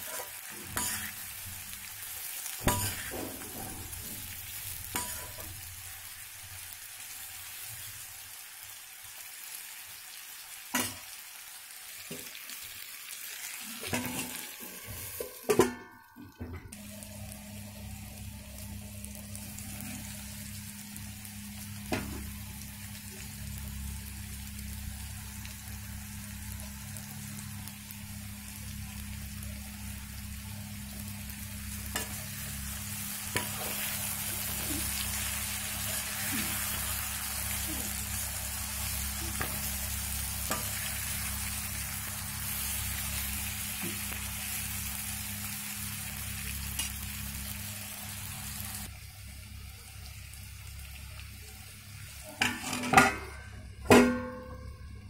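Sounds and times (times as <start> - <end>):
vegetables sizzling in oil: 0.0 - 15.6, 16.7 - 55.0.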